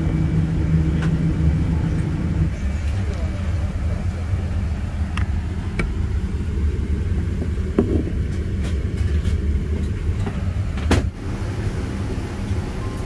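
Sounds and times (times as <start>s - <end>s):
airliner cabin low rumble: 0.0s - 13.0s.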